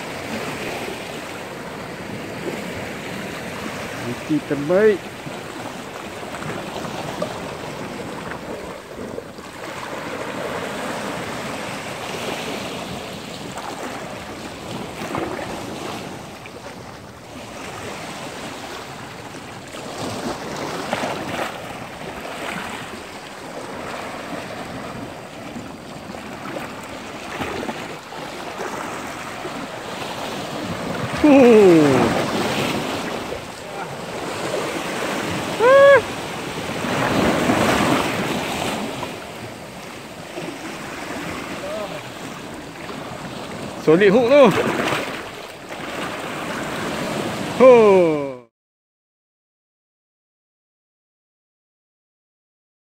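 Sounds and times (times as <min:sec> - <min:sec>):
surf breaking over rocks: 0:00.0 - 0:16.8, 0:17.5 - 0:48.5.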